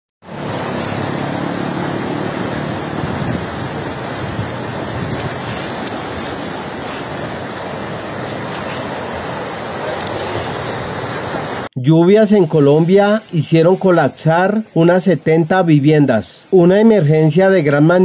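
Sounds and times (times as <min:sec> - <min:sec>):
floodwater rushing: 0:00.2 - 0:18.0.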